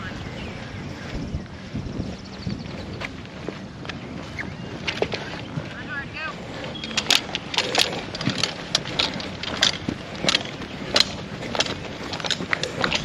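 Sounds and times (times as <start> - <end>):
running footsteps: 0.0 - 13.0.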